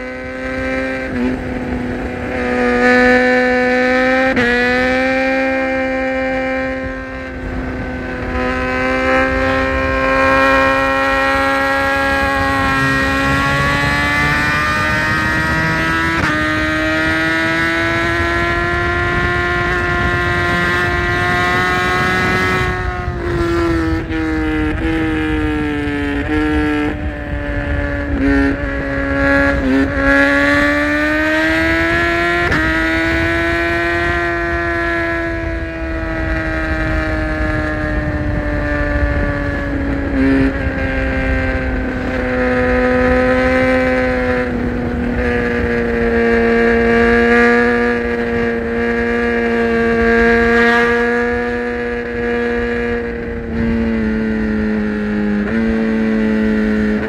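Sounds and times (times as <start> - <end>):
motorcycle engine revving: 0.0 - 57.0
wind rushing: 0.1 - 57.0.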